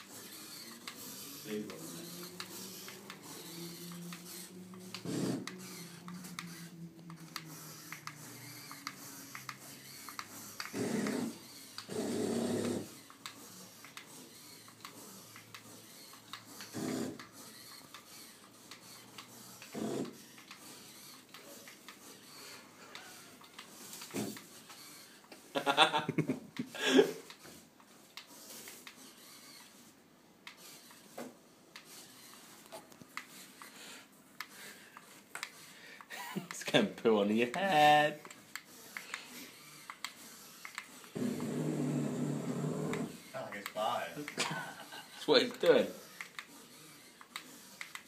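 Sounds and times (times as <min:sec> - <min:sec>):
small motor whirring: 0:00.0 - 0:25.4, 0:26.6 - 0:36.5, 0:37.3 - 0:48.0.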